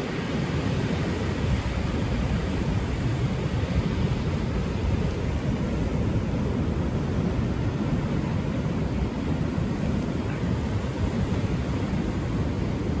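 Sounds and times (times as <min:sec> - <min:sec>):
rough surf: 0:00.0 - 0:13.0
wind buffeting microphone: 0:00.0 - 0:13.0.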